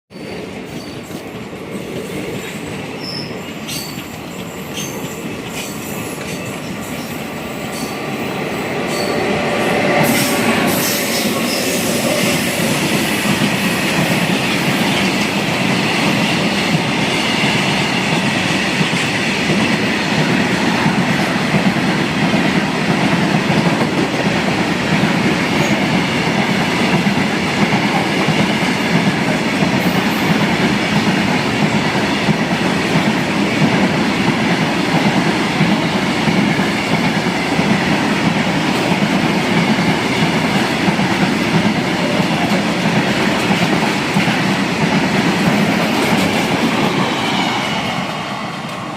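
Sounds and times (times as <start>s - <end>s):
train wheels rumbling on track: 0.1s - 48.9s.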